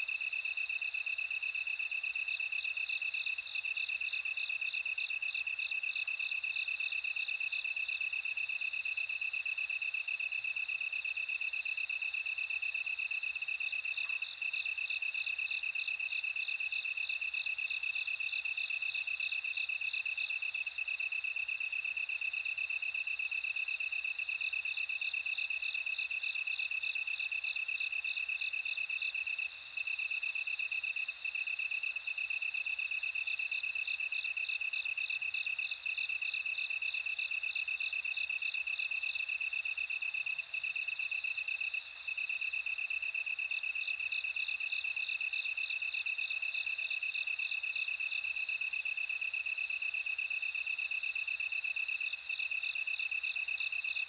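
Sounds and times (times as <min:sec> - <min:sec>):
crickets chirring chorus: 0:00.0 - 0:54.0
ringing cricket trills: 0:00.0 - 0:54.0.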